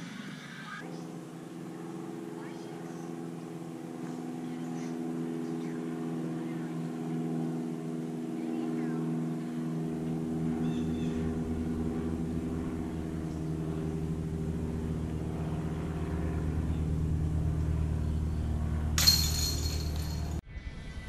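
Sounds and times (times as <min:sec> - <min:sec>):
motor humming steadily: 0:00.0 - 0:20.4.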